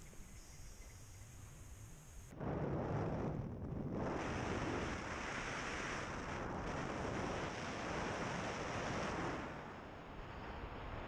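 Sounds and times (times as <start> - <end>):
wind rushing over microphone: 1.3 - 11.0.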